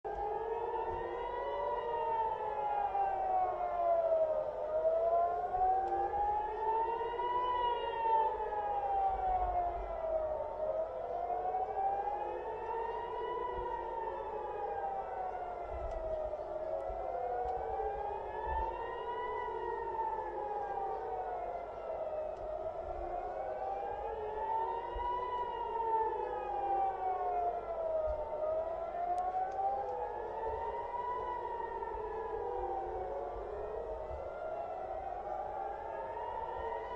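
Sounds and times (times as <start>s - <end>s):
warning sirens wailing: 0.1s - 36.9s.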